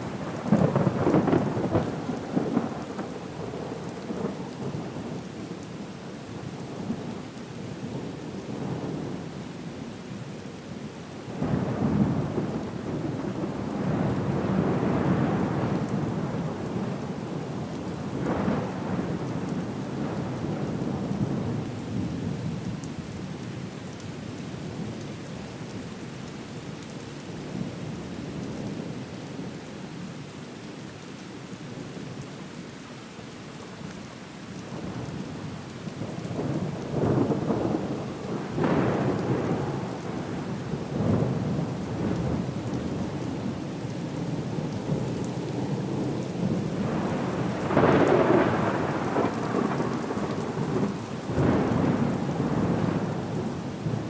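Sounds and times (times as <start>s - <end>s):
rain: 0.0s - 54.0s.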